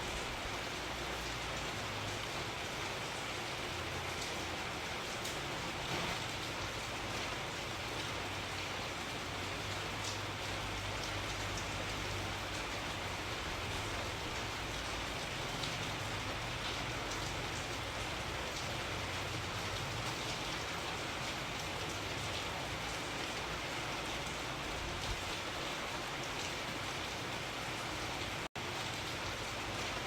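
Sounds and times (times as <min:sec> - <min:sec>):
rain pattering: 0:00.0 - 0:30.0.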